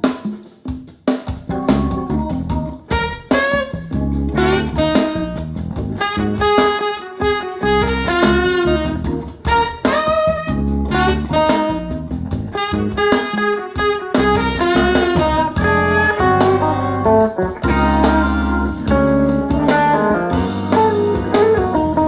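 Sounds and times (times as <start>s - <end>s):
drums: 0.0s - 22.0s
bass: 1.3s - 6.8s, 7.4s - 22.0s
saxophone lead: 2.9s - 22.0s.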